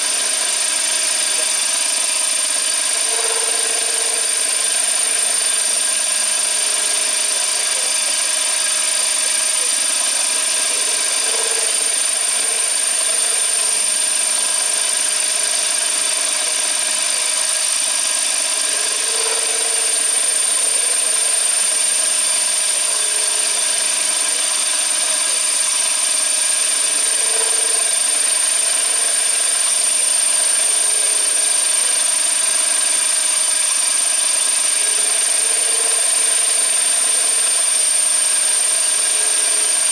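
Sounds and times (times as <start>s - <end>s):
lower machine tone: 0.0s - 39.9s
machine spindle whine: 0.0s - 39.9s
machining noise: 0.0s - 39.9s.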